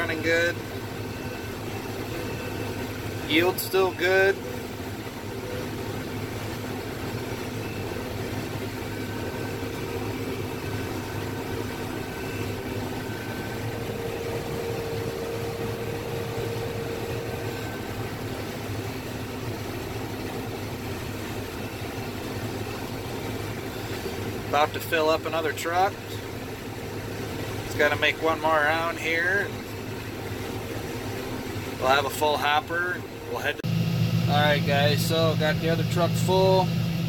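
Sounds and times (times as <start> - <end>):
combine harvester drone: 0.0 - 37.0
faint machine whine: 0.0 - 37.0.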